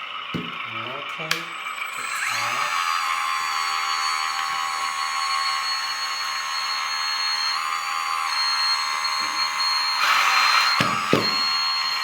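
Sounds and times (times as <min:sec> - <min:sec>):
hydraulic pump whine: 0:00.0 - 0:12.0.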